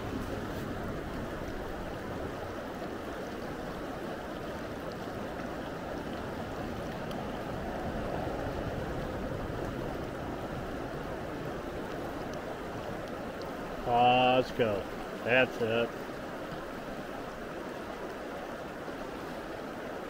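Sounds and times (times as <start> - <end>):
river current rushing: 0.0 - 20.0.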